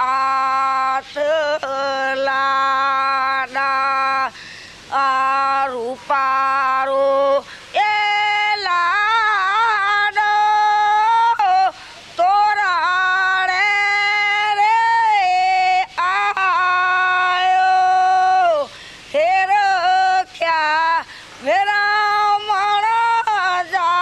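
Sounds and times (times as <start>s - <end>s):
woman singing unaccompanied: 0.0s - 24.0s.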